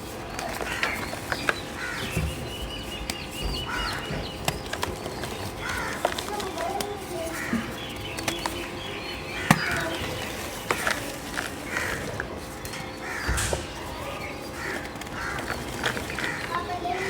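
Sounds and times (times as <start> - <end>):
chalk cracking and crumbling: 0.3 - 17.0.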